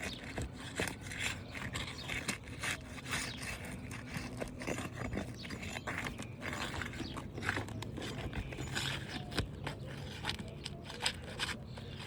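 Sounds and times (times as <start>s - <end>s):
pry bar scraping under shingles: 0.0s - 12.0s.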